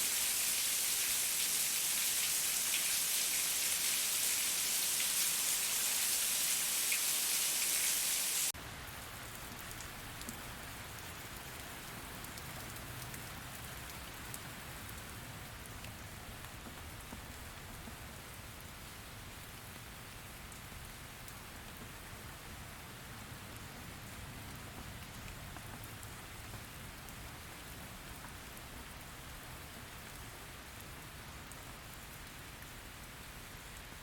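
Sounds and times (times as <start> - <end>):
rain drops ticking: 0.0 - 22.5, 23.1 - 34.0
dense rain hiss: 0.0 - 34.0.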